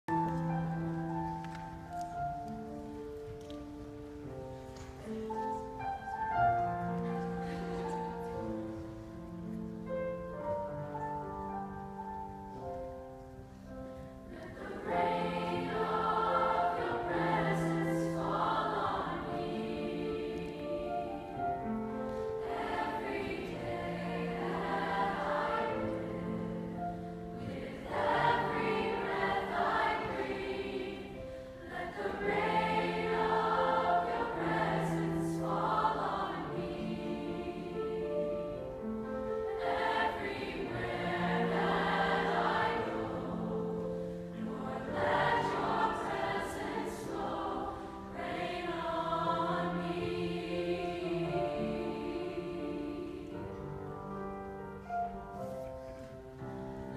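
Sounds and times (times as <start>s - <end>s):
grand piano: 0.0s - 56.9s
choir singing: 4.5s - 56.9s.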